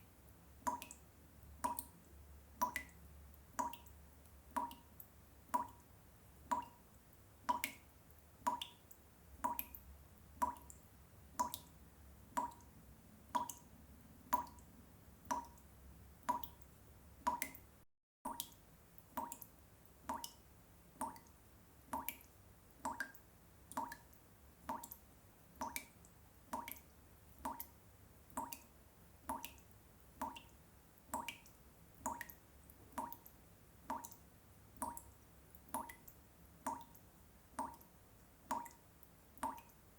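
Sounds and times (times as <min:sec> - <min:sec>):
water dripping plinks: 0:00.6 - 0:13.7, 0:14.3 - 0:17.7, 0:18.3 - 0:34.2, 0:34.8 - 0:37.9, 0:38.5 - 0:39.8.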